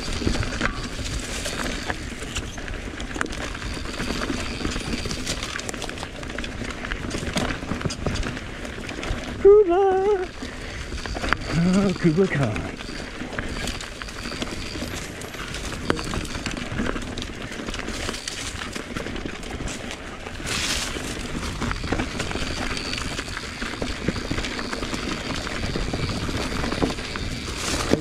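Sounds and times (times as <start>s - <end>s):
bike chain and frame rattling: 0.0s - 28.0s
bike tyre rumble on dirt: 0.0s - 28.0s.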